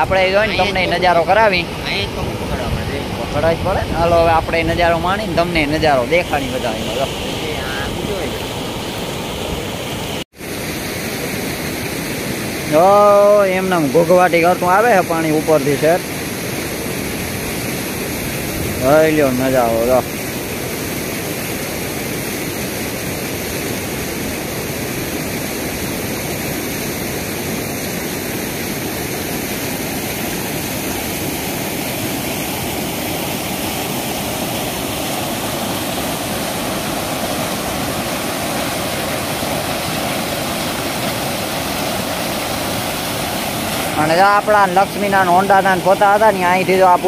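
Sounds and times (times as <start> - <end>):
water rushing over rocks: 0.0 - 47.0.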